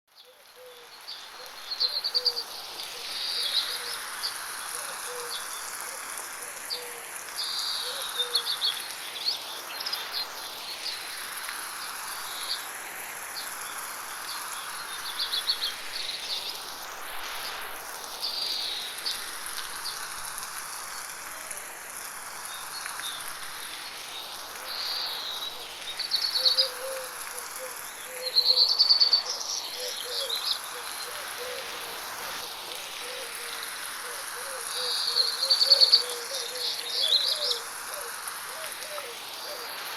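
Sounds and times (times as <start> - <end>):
insects: 0.1 - 39.9
light rain hiss: 0.1 - 39.9.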